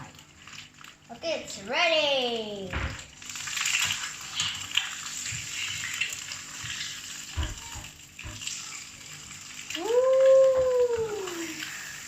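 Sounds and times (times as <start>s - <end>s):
egg sizzling in a frying pan: 0.0s - 12.0s.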